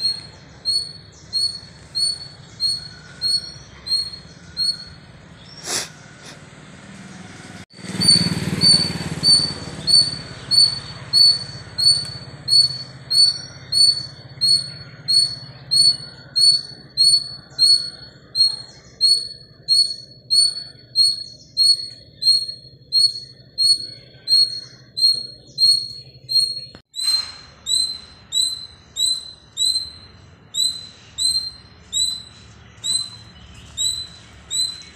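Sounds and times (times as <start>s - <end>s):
small bird chirping: 0.0s - 6.4s, 7.7s - 34.9s.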